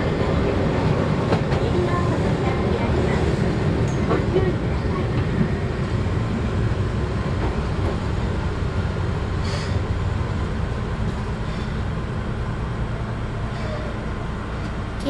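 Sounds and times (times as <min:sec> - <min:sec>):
train rumble inside car: 0:00.0 - 0:15.0.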